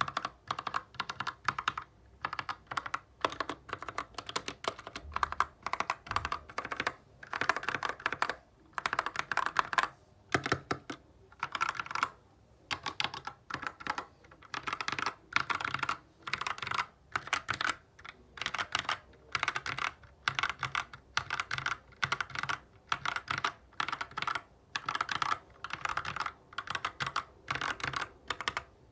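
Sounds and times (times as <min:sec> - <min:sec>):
mechanical keyboard typing: 0:00.0 - 0:28.9.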